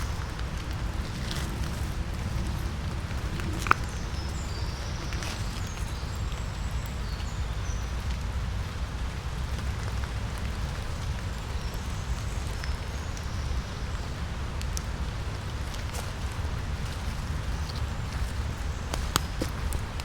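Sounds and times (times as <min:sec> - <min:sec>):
rain pattering on leaves: 0:00.0 - 0:20.0
water drips: 0:00.0 - 0:20.0.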